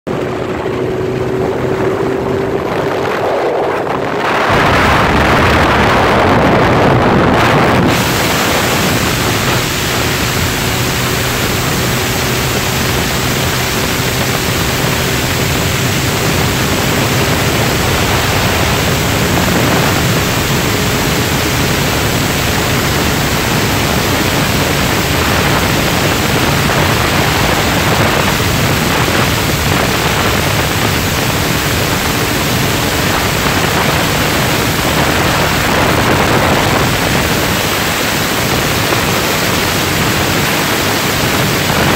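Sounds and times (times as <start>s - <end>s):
motorcycle engine hum: 0.0s - 41.9s
wind rushing over microphone: 0.1s - 41.9s.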